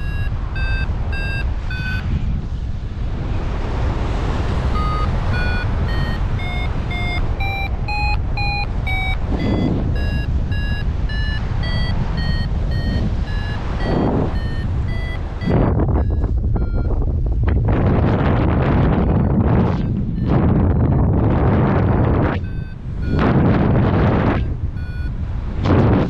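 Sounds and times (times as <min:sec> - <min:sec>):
variometer beeping: 0:00.0 - 0:02.2, 0:04.2 - 0:17.7, 0:18.4 - 0:26.0
wind noise on microphone: 0:00.0 - 0:26.0.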